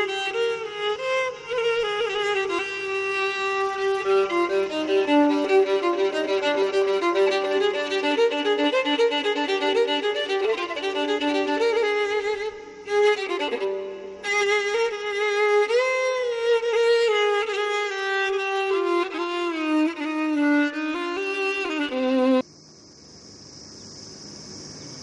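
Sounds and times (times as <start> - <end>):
violin melody: 0.0 - 22.4.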